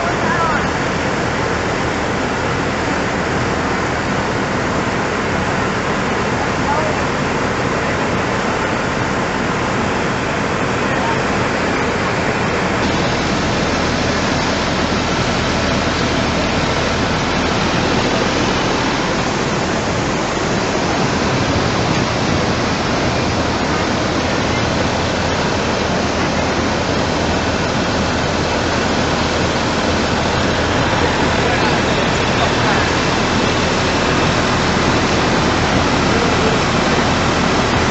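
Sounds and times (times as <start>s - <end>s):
flood torrent rushing: 0.0s - 37.9s.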